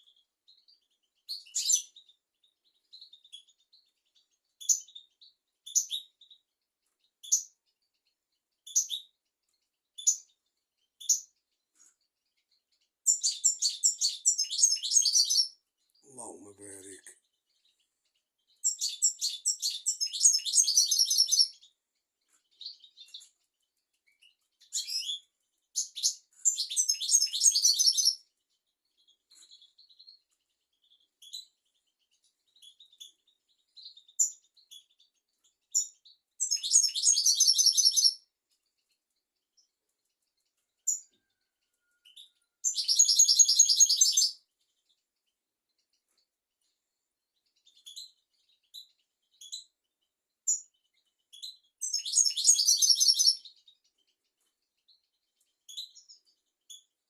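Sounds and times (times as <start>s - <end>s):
goldfinch twittering song: 0.0s - 45.1s, 47.4s - 57.0s.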